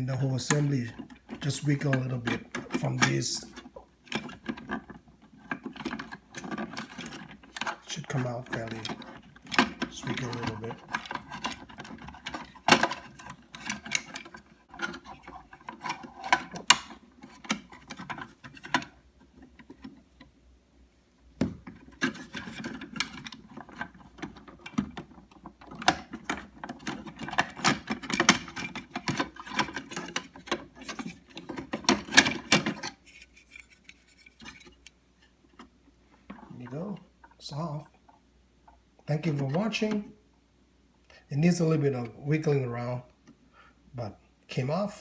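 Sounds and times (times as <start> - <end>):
plastic holder rattling and clicking: 0.0 - 20.4, 21.4 - 40.1.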